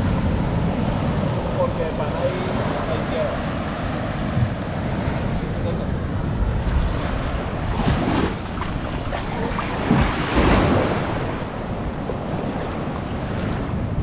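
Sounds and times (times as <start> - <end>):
waves washing up sandy shore: 0.0 - 14.0
wind buffeting microphone: 0.0 - 14.0.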